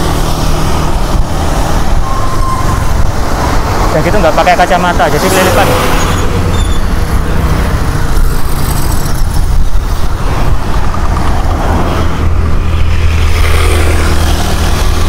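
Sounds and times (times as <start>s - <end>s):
cars and motor scooters passing: 0.0s - 15.0s.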